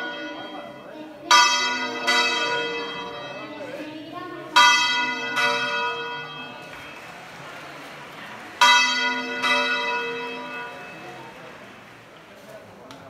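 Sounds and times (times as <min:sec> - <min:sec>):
church bell ringing: 0:00.0 - 0:11.8.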